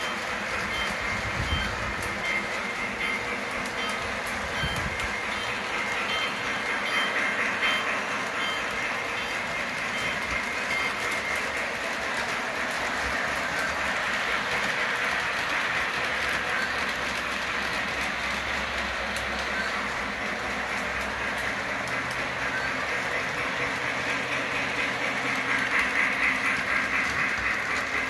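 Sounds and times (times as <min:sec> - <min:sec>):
model train whirring on track: 0:00.0 - 0:28.0.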